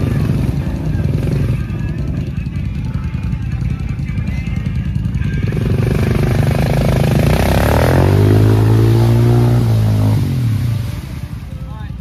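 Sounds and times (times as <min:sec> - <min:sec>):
quad engine revving: 0:00.0 - 0:02.6, 0:03.5 - 0:11.6.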